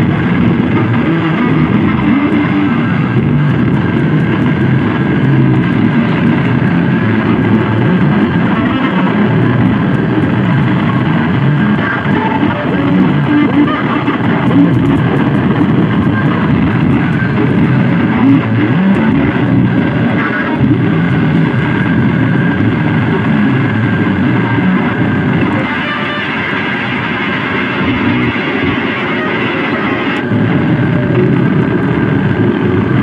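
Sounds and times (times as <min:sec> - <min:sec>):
distorted grinding noise music: 0:00.0 - 0:33.0.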